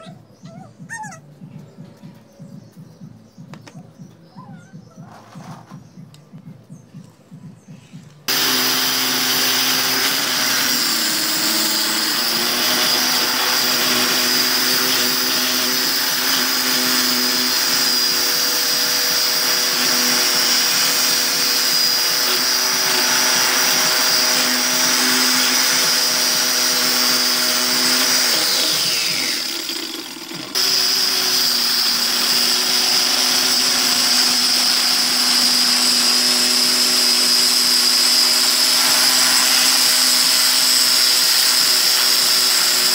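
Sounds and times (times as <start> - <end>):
circular saw cutting: 8.3 - 42.9.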